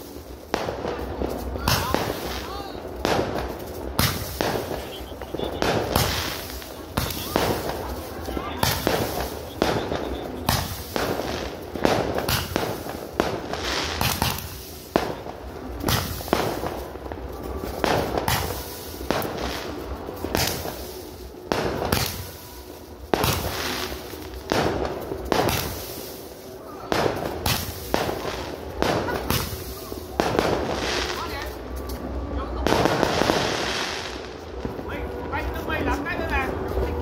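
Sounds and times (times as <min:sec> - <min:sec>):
hiss of sparks: 0:00.0 - 0:17.0, 0:17.7 - 0:32.0
fireworks bangs: 0:00.0 - 0:37.0.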